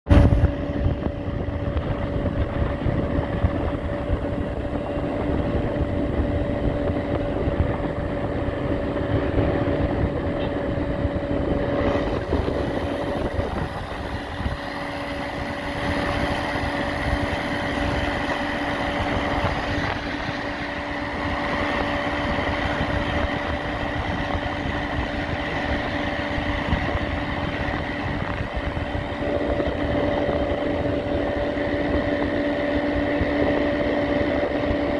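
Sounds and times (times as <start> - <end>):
electric bike motor whine: 0.1 - 34.9
rushing noise: 0.1 - 34.9.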